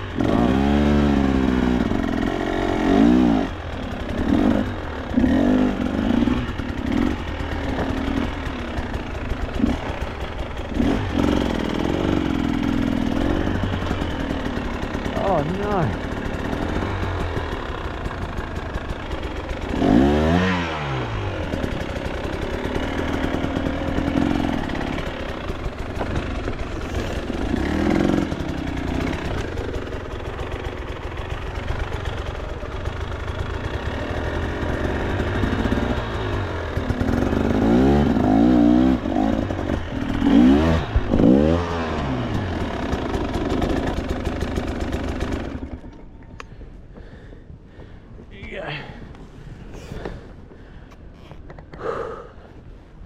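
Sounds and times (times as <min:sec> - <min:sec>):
clatter: 0:00.0 - 0:20.4, 0:21.0 - 0:46.5
dirt bike engine revving: 0:00.0 - 0:45.9.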